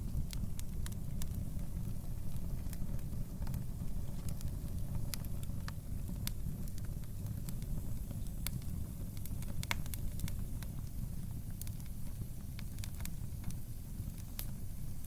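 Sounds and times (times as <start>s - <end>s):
burning wood crackling and popping: 0.0s - 15.0s
fire flames rumbling: 0.0s - 15.0s.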